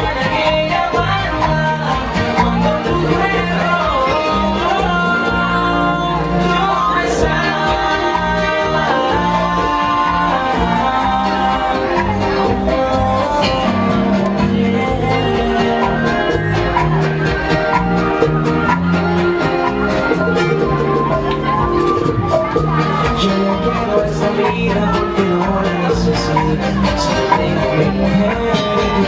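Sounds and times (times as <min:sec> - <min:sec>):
bachata music with plucked guitar: 0:00.0 - 0:29.0
person singing: 0:00.0 - 0:29.0.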